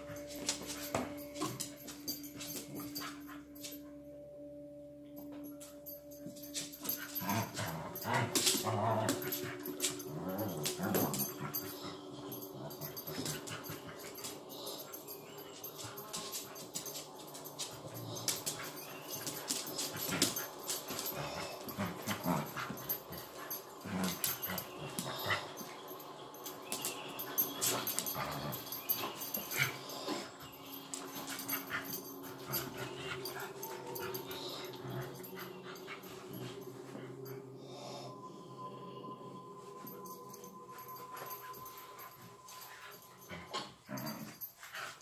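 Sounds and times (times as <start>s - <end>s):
dogs growling: 6.8s - 38.7s, 39.8s - 45.0s.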